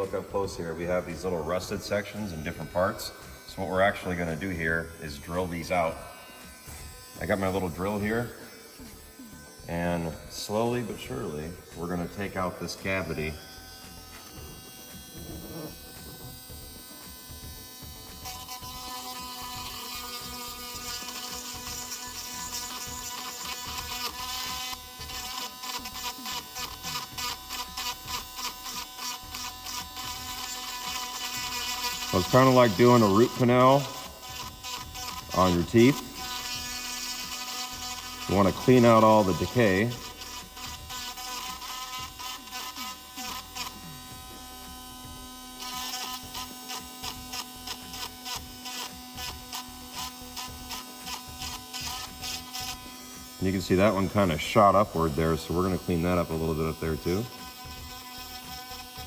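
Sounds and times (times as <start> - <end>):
small electric drill grinding: 0.0 - 59.0.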